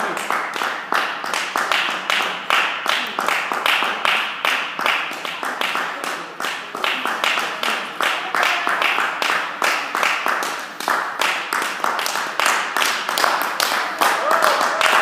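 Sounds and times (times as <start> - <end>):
rhythmic hand clapping in hall: 0.0 - 15.0.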